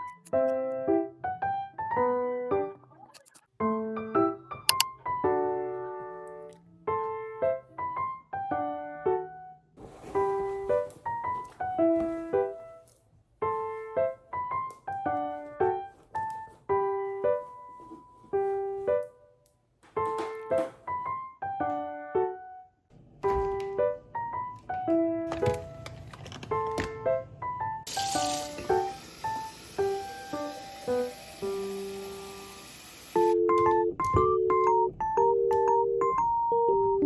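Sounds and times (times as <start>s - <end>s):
gentle piano music: 0.0s - 37.0s.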